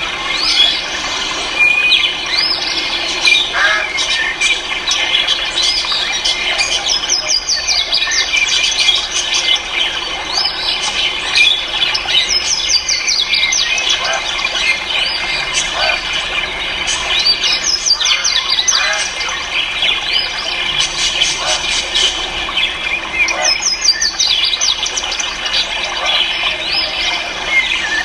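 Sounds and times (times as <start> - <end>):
cage birds squawking and chirping: 0.0 - 28.0.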